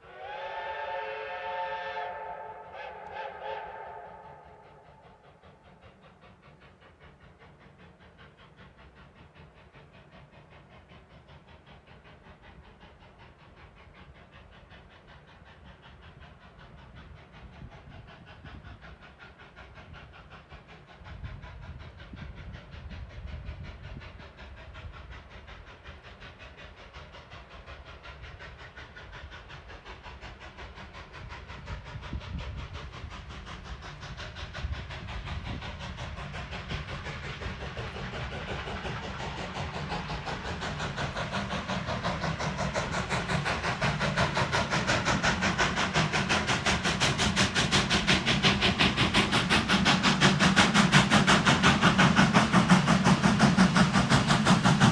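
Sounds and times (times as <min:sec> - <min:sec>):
steam hiss: 0:00.0 - 0:54.9
steam locomotive running: 0:00.0 - 0:54.9.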